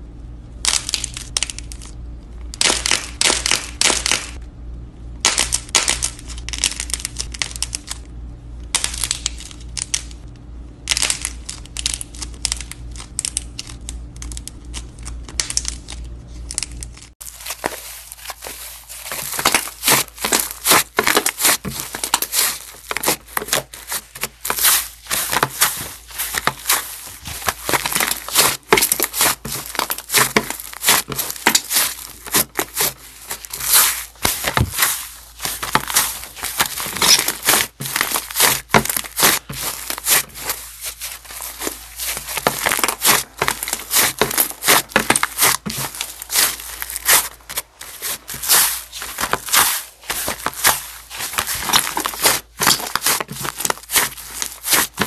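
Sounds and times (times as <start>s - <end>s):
slime squelching and crackling: 8.6s - 55.0s.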